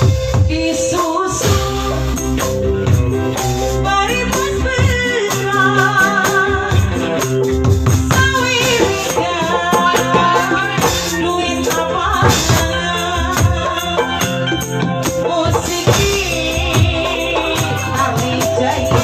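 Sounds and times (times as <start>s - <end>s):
person singing: 0.3s - 2.6s, 3.2s - 7.4s, 8.1s - 19.0s.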